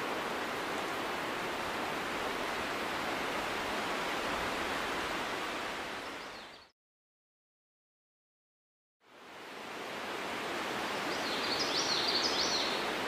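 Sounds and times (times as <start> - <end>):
rushing outdoor noise: 0.0 - 6.6, 9.0 - 13.0.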